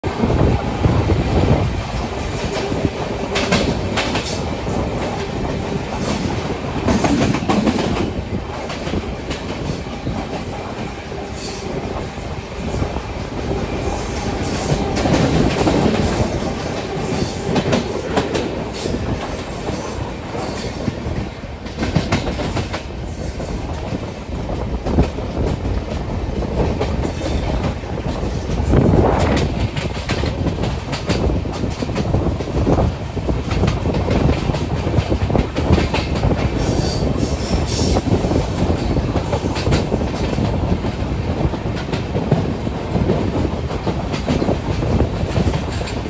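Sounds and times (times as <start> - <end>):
passing train on next track: 0.0 - 46.0
train wheels clacking over rail joints: 0.3 - 46.0.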